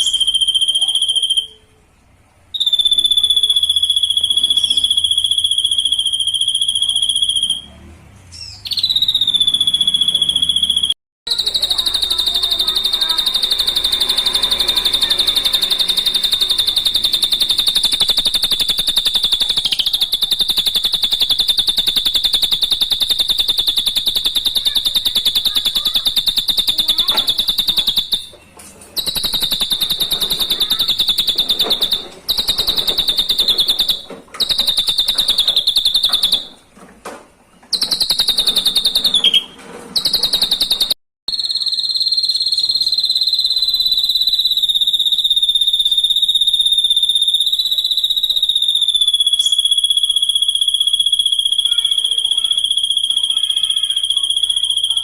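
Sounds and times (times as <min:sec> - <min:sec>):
high-pitched bird trill: 0:00.0 - 0:01.9, 0:02.5 - 0:36.6, 0:37.7 - 0:55.0.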